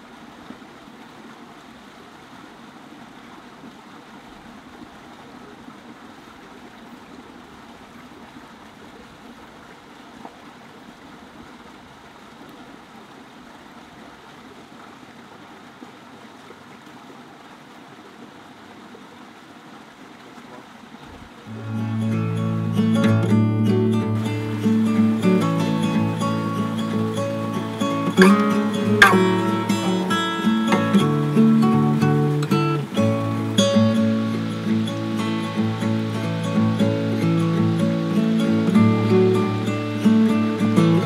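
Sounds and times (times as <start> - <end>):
brook running over rocks: 0.0 - 41.0.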